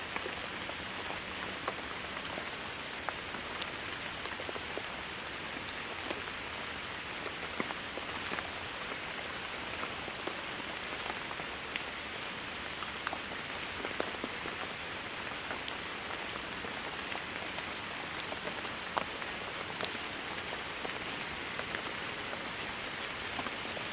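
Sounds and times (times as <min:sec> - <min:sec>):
rain hiss: 0:00.0 - 0:23.9.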